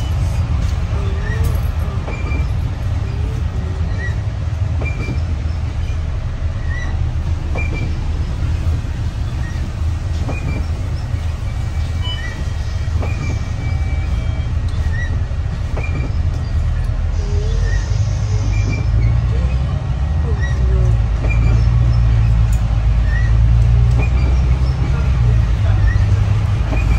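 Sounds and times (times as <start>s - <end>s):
low vehicle rumble: 0.0s - 26.9s.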